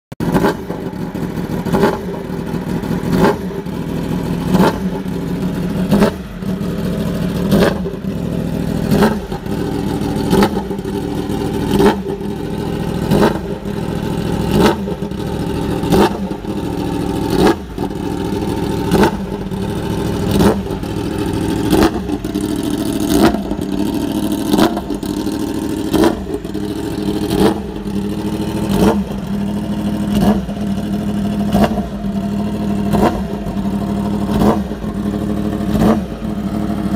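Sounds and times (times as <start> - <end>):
motorcycle engine revving: 0.2 - 36.9.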